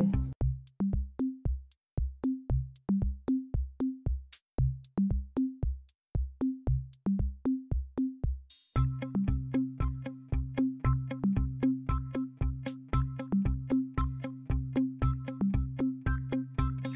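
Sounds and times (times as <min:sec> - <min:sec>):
electronic drum-machine beat: 0:00.0 - 0:16.9.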